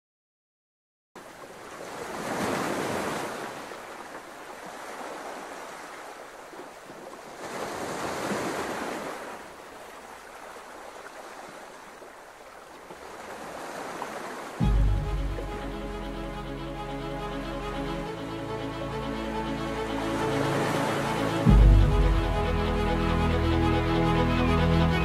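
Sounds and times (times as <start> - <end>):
waves washing in: 1.2 - 25.0.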